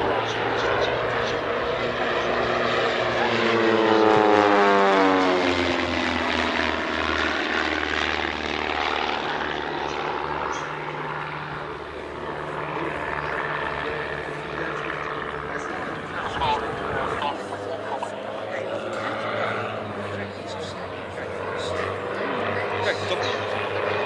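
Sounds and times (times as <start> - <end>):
propeller planes flying past: 0.0 - 24.0.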